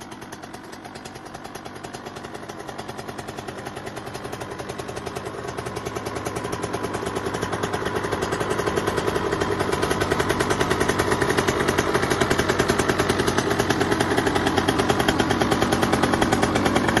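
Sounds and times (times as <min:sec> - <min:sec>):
two-stroke motorbike engine running: 0:00.0 - 0:17.0.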